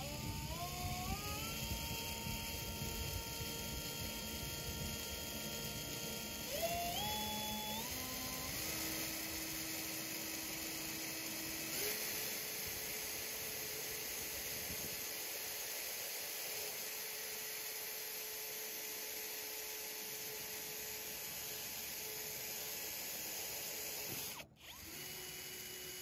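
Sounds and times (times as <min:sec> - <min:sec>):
electric drill drilling metal: 0:00.0 - 0:26.0.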